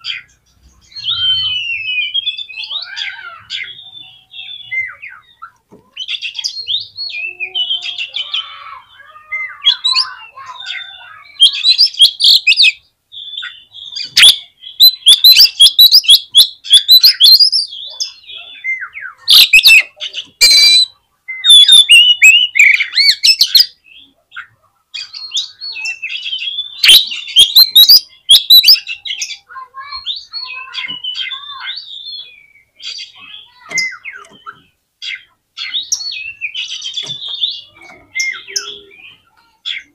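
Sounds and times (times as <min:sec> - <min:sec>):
songbird whistling and rattling: 0:00.9 - 0:07.9, 0:11.4 - 0:23.7, 0:25.4 - 0:39.8.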